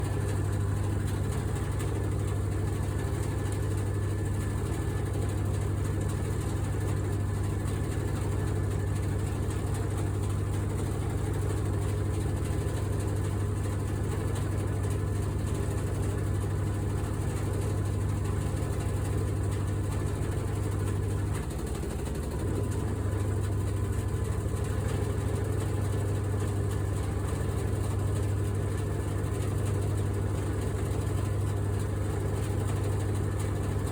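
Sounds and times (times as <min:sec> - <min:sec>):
washing machine drone: 0:00.0 - 0:33.9.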